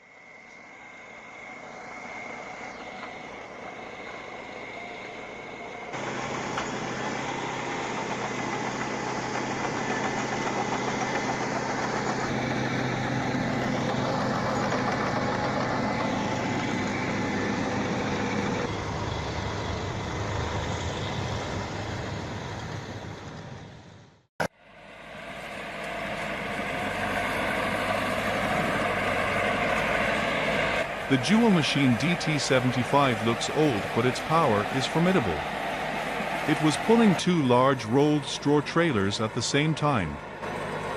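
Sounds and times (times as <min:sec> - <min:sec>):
heavy vehicle engine running: 0:00.0 - 0:40.9.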